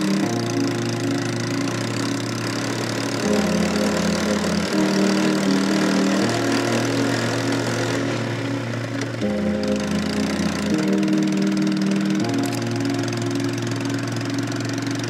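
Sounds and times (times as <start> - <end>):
sustained low synth notes: 0.0 - 15.0.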